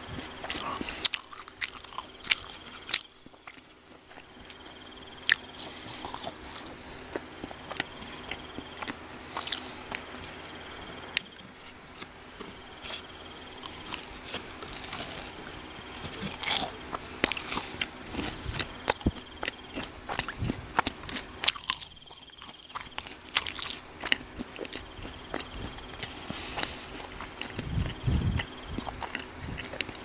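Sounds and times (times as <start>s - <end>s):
quiet chewing: 0.0s - 30.0s
crunchy food bites: 0.1s - 30.0s.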